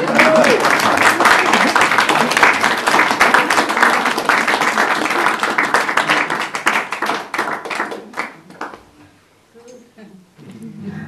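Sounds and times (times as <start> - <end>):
applause: 0.0 - 8.9.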